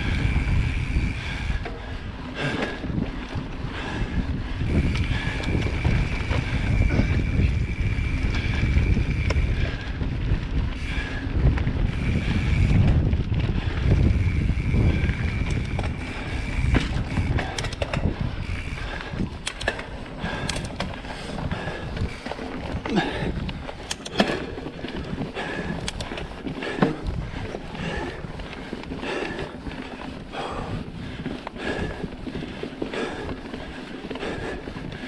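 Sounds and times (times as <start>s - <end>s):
bike tyres and frame rattling: 0.0s - 35.0s
wind buffeting microphone: 0.0s - 35.0s.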